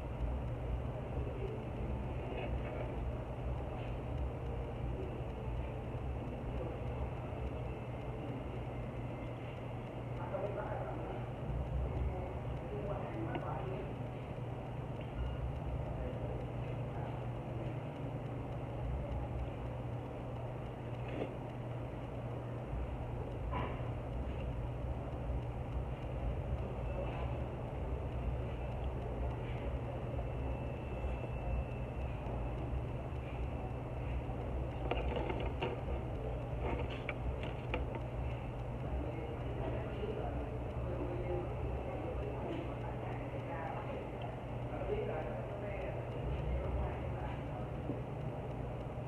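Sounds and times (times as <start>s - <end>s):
steady low hum: 0.0s - 49.0s
steady low rumble: 0.0s - 49.0s
clicks and crackles of eating: 0.2s - 49.0s.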